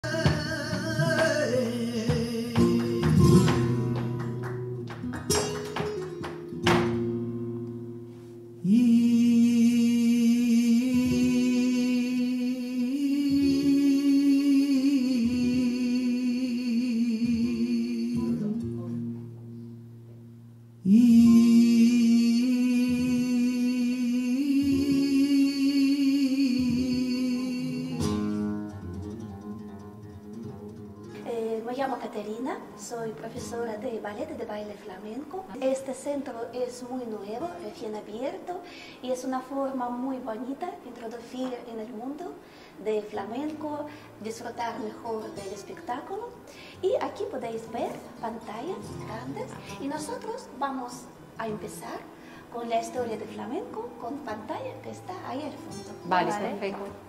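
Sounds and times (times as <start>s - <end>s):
woman singing: 0.0s - 4.2s, 8.6s - 18.8s, 20.8s - 29.9s, 31.2s - 51.8s, 52.5s - 57.0s
strummed flamenco guitar: 0.0s - 57.0s.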